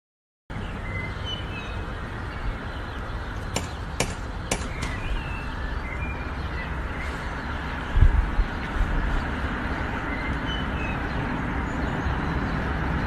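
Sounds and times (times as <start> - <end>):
steady background noise: 0.5 - 13.0.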